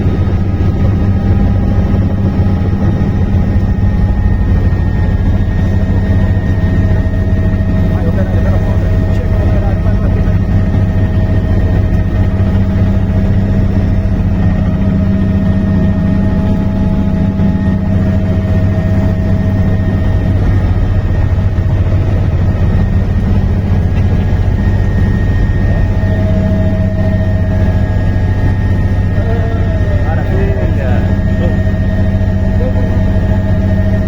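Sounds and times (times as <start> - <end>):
faint high whine: 0.0 - 34.0
helicopter rotor and engine drone: 0.0 - 34.0.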